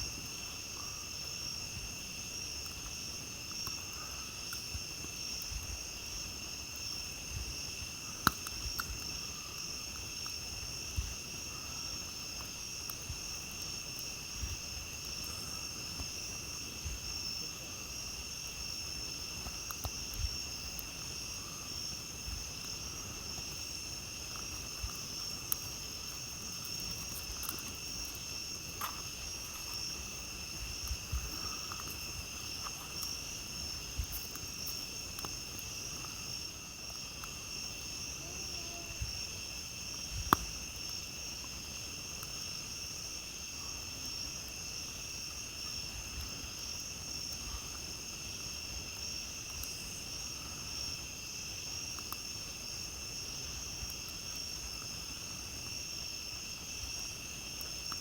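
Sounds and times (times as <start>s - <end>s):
campfire crackling and popping: 0.0s - 58.0s
night insects chirring: 0.0s - 58.0s.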